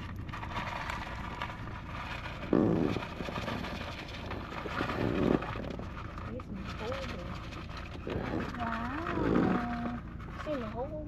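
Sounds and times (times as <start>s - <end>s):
car interior noise: 0.0s - 11.0s.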